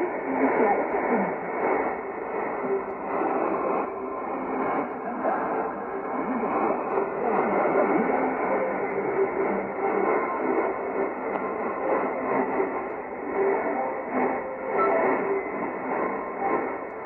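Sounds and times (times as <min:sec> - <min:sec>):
radio static hiss: 0:00.0 - 0:17.0
weak shortwave radio broadcast: 0:00.0 - 0:17.0.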